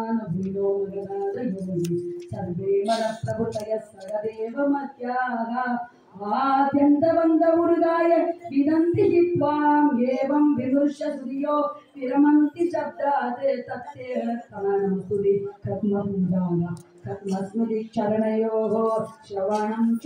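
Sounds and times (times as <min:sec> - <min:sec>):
woman singing a devotional hymn: 0:00.0 - 0:20.0.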